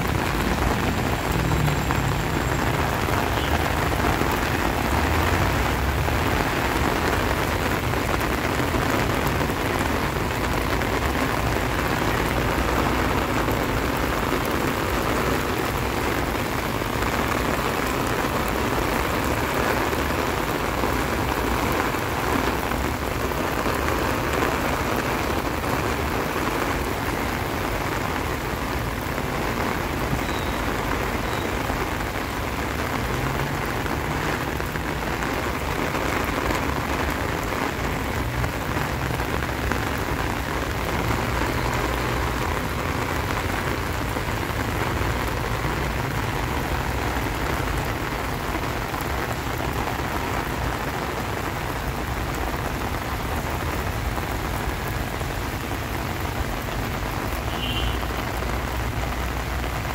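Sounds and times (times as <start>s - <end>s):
heavy rain pattering: 0.0s - 59.9s.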